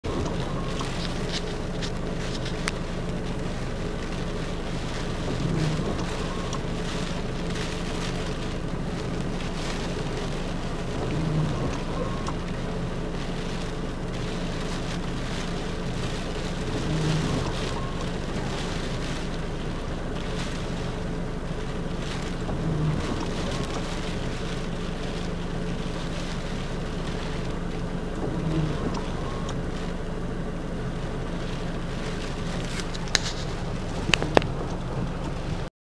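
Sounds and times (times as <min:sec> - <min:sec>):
engine idling inside cabin: 0:00.0 - 0:35.7
wind and rain noise: 0:00.0 - 0:35.7.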